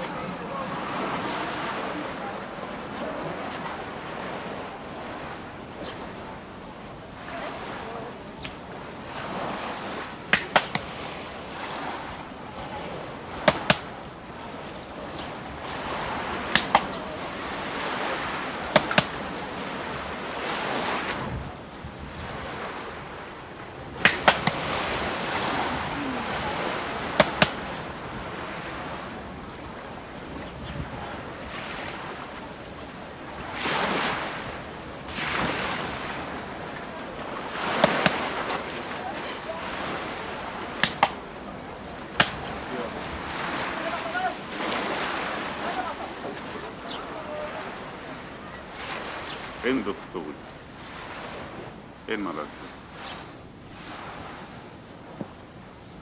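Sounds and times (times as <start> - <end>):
wind and surf: 0.0 - 56.0.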